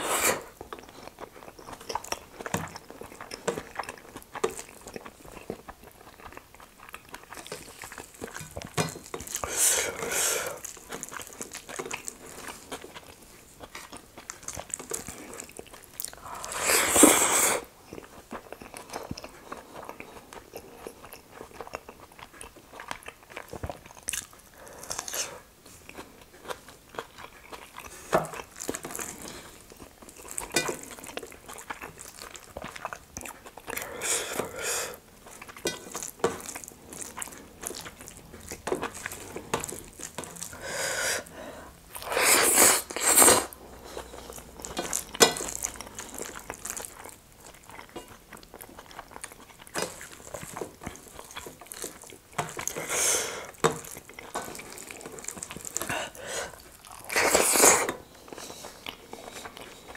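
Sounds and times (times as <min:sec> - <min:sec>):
chewing and lip smacks: 0:00.6 - 0:09.5, 0:17.8 - 0:25.2, 0:25.8 - 0:40.6, 0:42.8 - 0:59.9.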